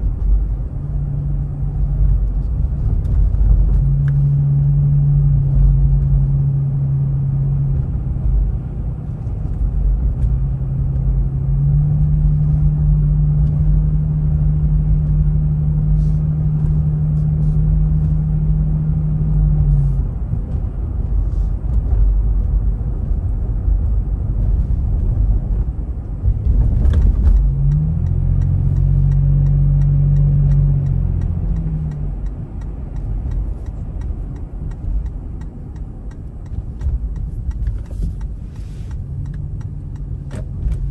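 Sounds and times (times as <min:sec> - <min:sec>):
tyres and engine rumble: 0:00.0 - 0:40.9.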